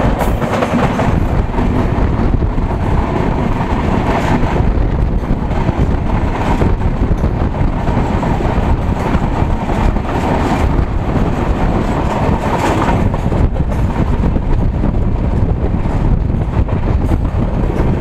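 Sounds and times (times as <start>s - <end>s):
train wheels rumbling on rails: 0.0s - 18.0s
wind on microphone: 0.0s - 18.0s.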